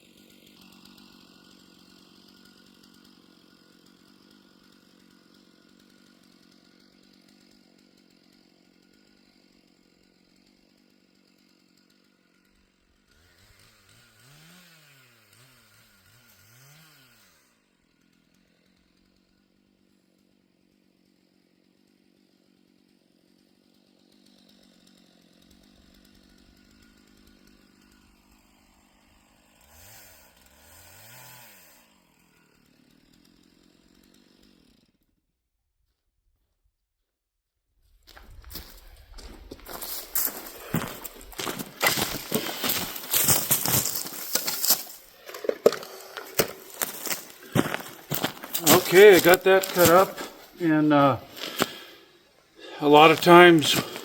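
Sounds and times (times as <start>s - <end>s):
faint chainsaw running: 0.0s - 35.2s, 38.2s - 54.0s.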